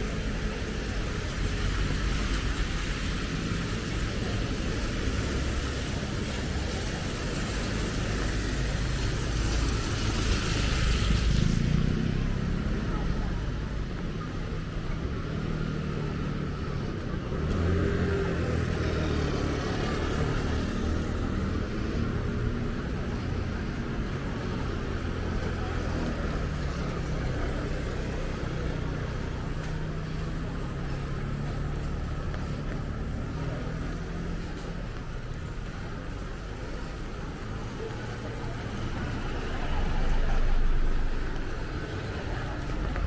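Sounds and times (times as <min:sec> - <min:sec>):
rain hissing on street: 0:00.0 - 0:43.0
vehicle engine humming: 0:00.0 - 0:43.0.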